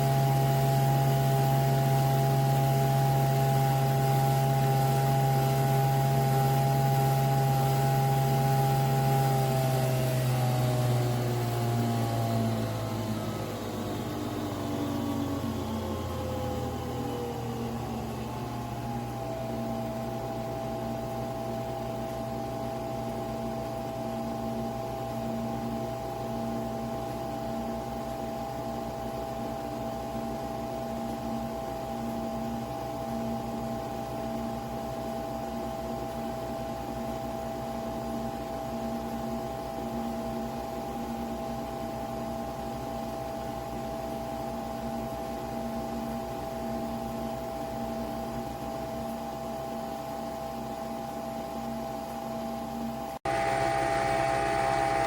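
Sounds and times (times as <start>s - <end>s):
coffee machine motor and pump: 0.0s - 55.0s.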